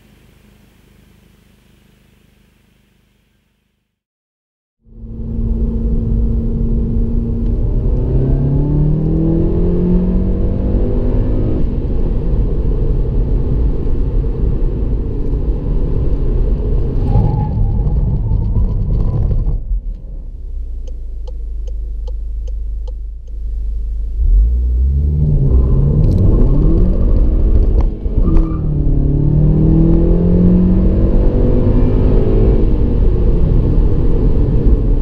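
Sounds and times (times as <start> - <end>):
road rumble: 4.8 - 35.0
car engine accelerating: 4.9 - 35.0.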